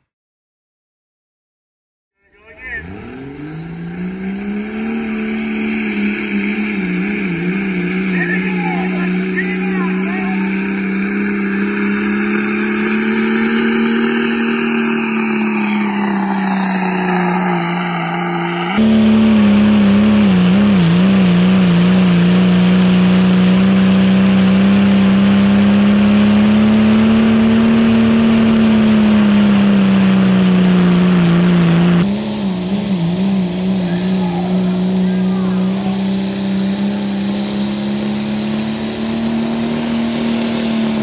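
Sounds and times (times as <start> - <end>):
diesel pickup engine at high revs: 2.3 - 41.0.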